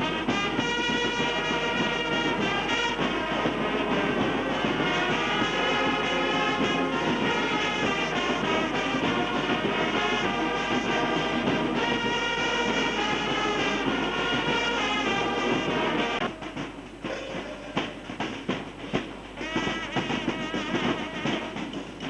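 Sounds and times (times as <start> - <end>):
brass band playing chords: 0.0 - 22.0.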